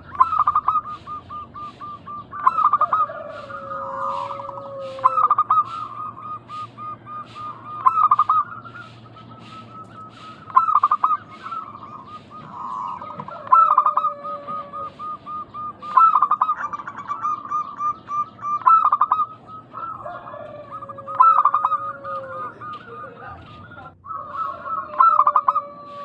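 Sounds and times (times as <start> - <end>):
doves cooing: 0.0 - 26.0.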